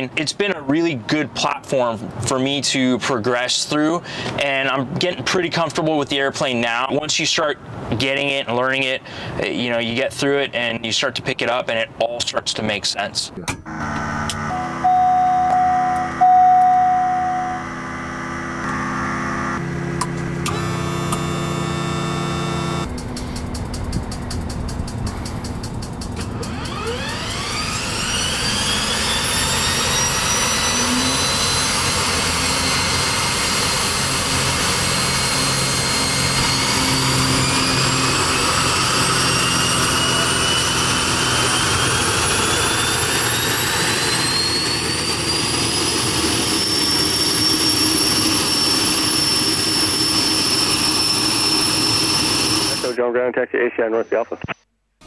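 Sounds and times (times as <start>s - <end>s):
turboprop engine whine: 0.0s - 8.2s, 13.4s - 53.6s.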